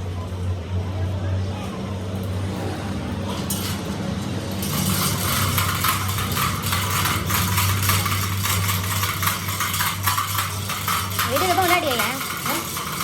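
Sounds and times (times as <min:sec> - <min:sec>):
machinery electric hum: 0:00.0 - 0:13.0.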